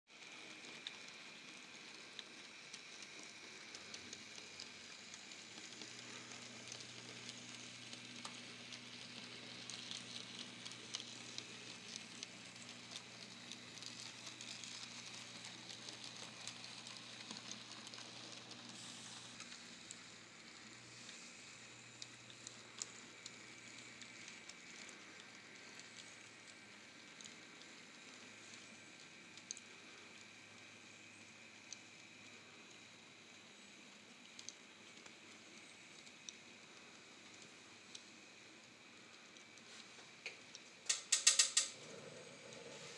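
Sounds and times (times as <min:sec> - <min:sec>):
low steady hum: 0:00.1 - 0:42.9
model trains crackling on track: 0:00.1 - 0:42.9.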